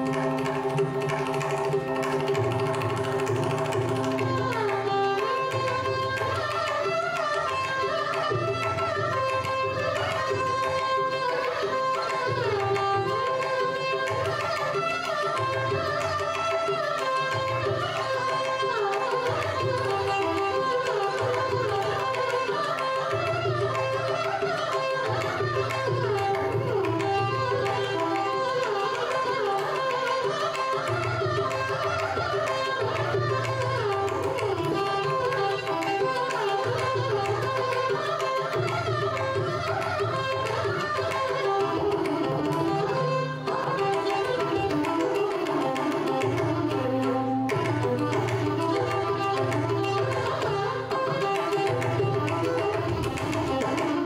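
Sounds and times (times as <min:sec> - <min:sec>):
violins playing ornamented melody: 0:00.0 - 0:54.0.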